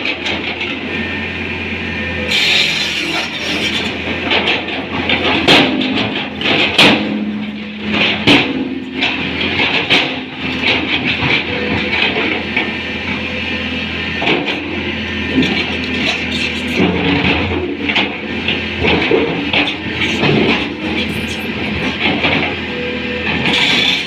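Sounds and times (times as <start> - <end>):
excavator running: 0.0 - 24.0.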